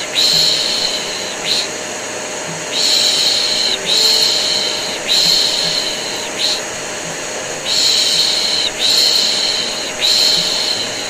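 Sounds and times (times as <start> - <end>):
vacuum cleaner droning: 0.0 - 11.0.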